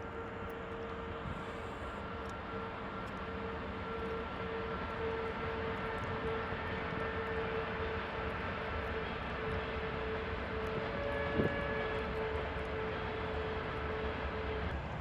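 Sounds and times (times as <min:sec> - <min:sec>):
steady whine: 0:00.0 - 0:15.0.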